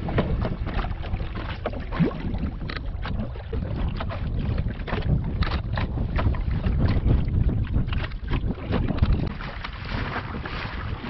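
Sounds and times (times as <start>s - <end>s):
waves slapping against hull: 0.0s - 11.0s
wind buffeting microphone: 0.0s - 11.0s.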